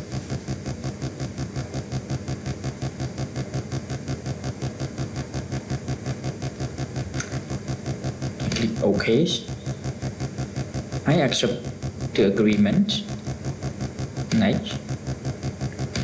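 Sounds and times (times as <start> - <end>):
low pulsing buzz: 0.0 - 16.0.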